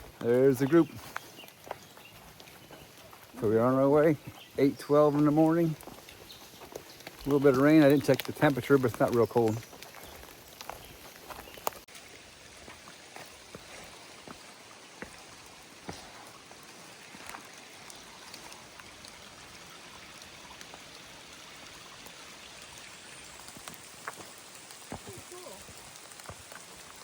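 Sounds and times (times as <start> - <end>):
raindrops tapping: 0.0 - 12.1, 12.7 - 27.0
light rain hissing: 0.0 - 27.0.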